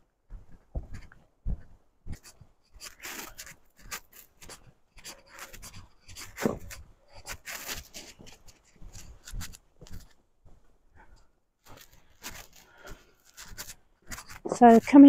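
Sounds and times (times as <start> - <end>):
footsteps on dirt path: 0.0 - 15.0.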